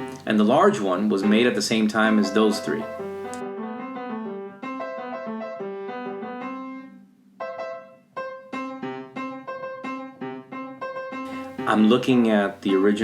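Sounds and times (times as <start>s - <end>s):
keyboard music: 0.0s - 13.0s.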